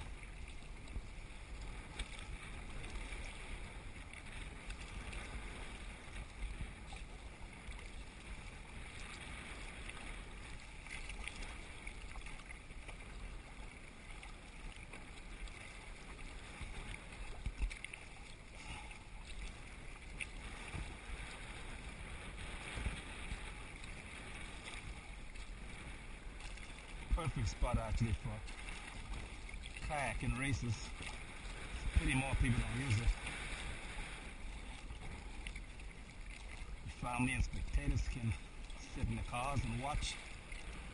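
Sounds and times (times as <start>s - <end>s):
paddle dipping in water: 0.0s - 40.9s
water lapping against kayak hull: 0.0s - 40.9s
wind rumble on microphone: 0.0s - 40.9s.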